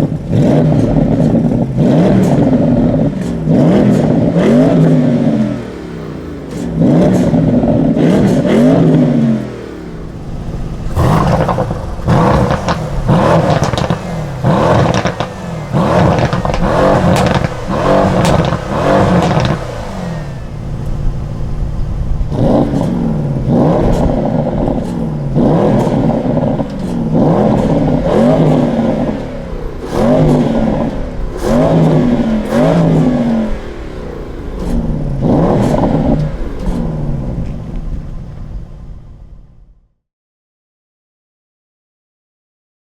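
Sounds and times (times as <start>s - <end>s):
exhaust pops and crackles: 0.0s - 39.6s
car exhaust revving: 0.0s - 39.9s.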